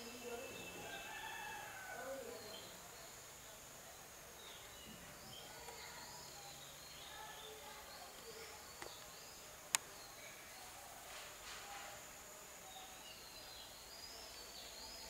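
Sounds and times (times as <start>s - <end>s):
birds chirping: 0.0s - 11.1s, 11.7s - 15.0s.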